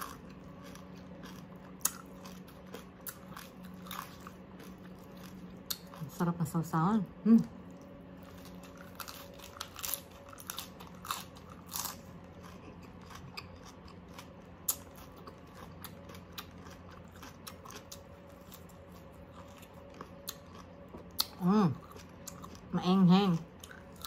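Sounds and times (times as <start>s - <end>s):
crunchy chewing: 0.0s - 6.2s, 7.6s - 24.0s.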